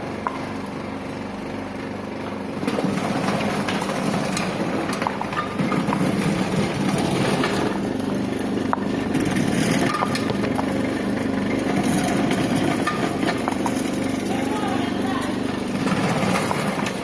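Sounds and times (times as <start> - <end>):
machine motor hum: 0.0 - 17.0.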